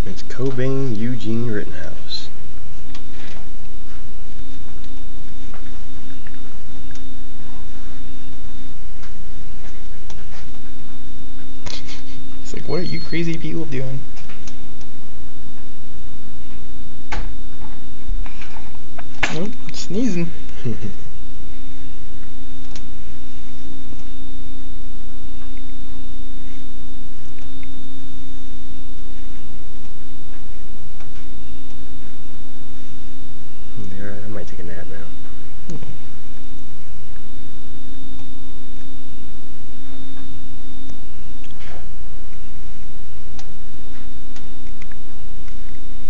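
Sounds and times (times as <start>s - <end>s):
faint high whine: 0.0s - 46.0s
low electrical hum: 0.0s - 46.0s.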